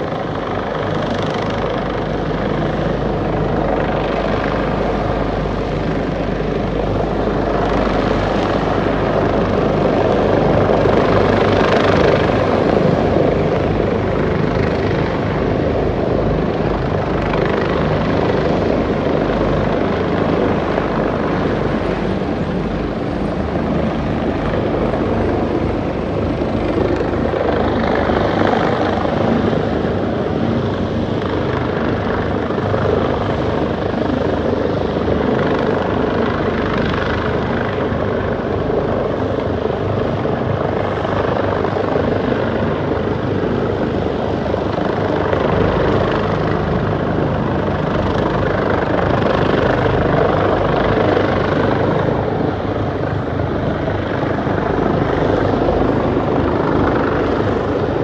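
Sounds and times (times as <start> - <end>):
helicopter rotor and engine noise: 0.0 - 58.0.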